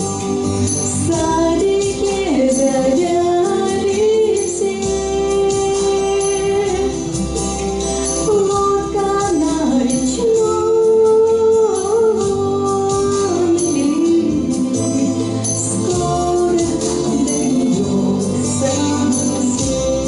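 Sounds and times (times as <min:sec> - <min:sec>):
instrumental backing with steady beat: 0:00.0 - 0:20.0.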